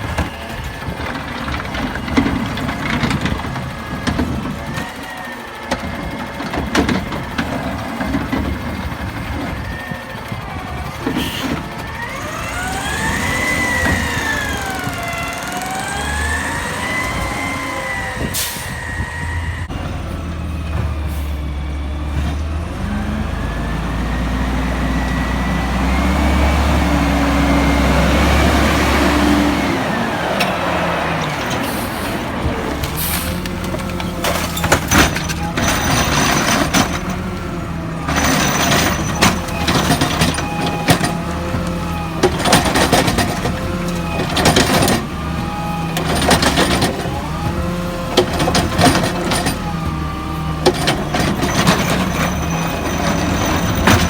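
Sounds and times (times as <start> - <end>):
garbage truck diesel engine revving: 0.0 - 54.0.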